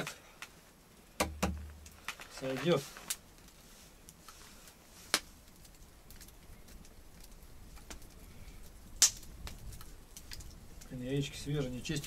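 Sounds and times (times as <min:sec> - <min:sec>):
campfire crackling: 0:00.0 - 0:12.0
fire snap: 0:00.0 - 0:12.0.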